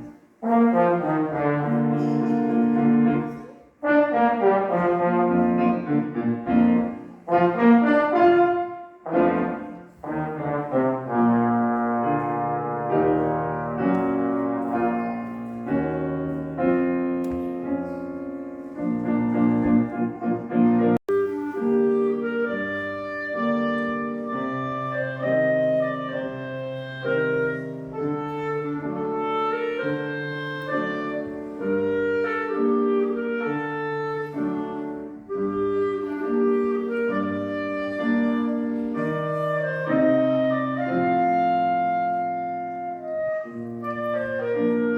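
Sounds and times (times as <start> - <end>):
piano accompaniment: 0.0 - 44.9
wind instrument melody: 0.0 - 44.9.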